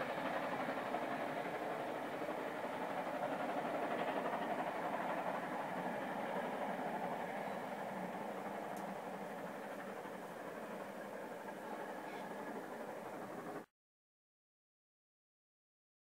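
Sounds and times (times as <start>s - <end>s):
steam train rumbling: 0.0s - 13.7s.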